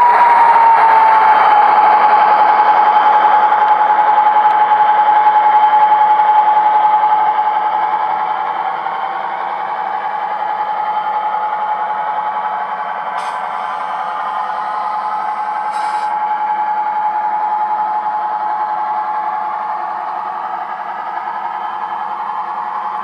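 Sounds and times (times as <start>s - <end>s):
model diesel engine sound from speaker: 0.0s - 23.0s
steady whine: 0.0s - 23.0s.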